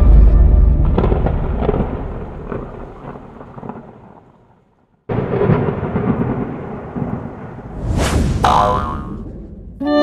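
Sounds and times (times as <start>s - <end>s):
thunder rumbling: 0.0s - 9.8s
thunderclap: 0.1s - 9.8s.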